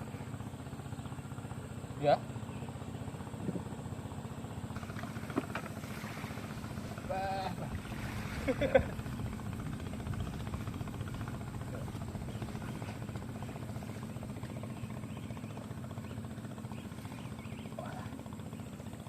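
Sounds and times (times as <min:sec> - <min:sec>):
small boat engine running: 0:00.0 - 0:19.0.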